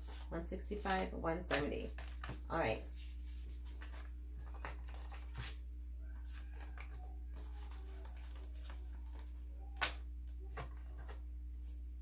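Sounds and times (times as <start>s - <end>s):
banknotes rustling and flicking: 0.0s - 11.2s
steady low hum: 0.0s - 12.0s.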